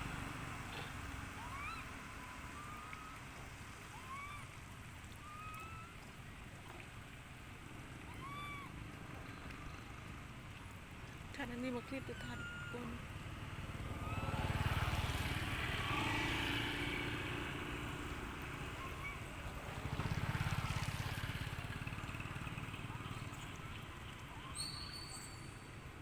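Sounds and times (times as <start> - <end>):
passing vehicles engine rumble: 0.0 - 5.4, 7.0 - 26.0.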